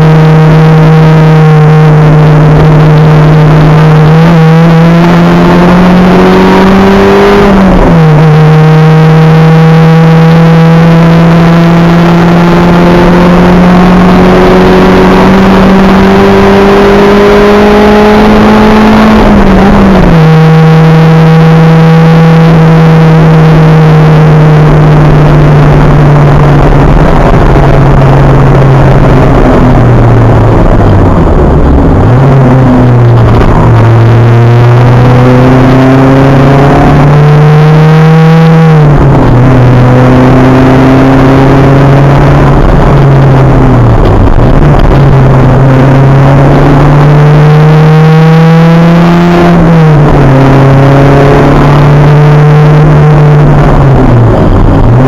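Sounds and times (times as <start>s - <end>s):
race car engine revving: 0.0s - 55.0s
road noise: 0.0s - 55.0s.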